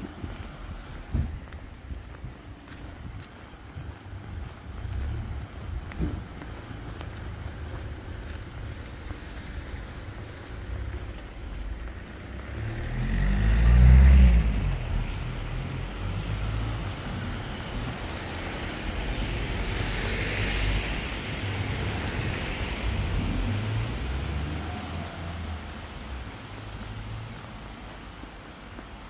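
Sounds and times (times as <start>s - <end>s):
car engine rumble: 0.0s - 29.0s
tyres hissing on wet road: 0.0s - 29.0s.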